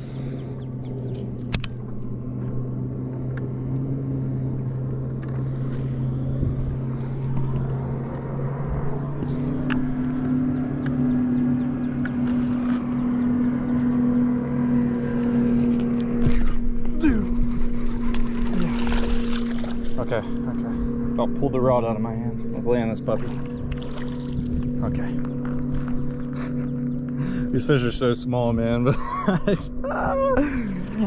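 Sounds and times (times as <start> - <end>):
boat motor humming: 0.0 - 31.0.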